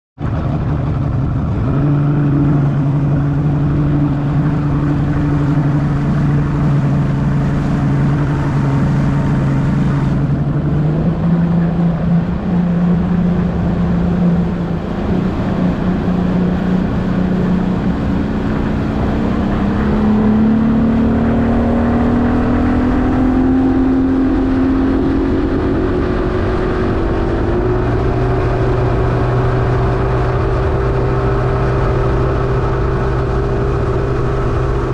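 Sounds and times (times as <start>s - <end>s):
outboard motor running: 0.2s - 34.9s.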